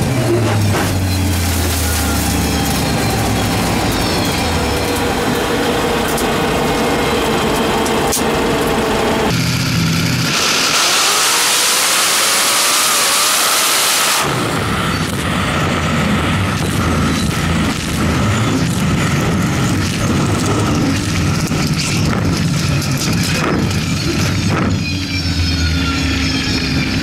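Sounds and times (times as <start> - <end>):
engine rumbling with crackles: 0.0 - 27.0
race car engine roaring: 0.0 - 27.0.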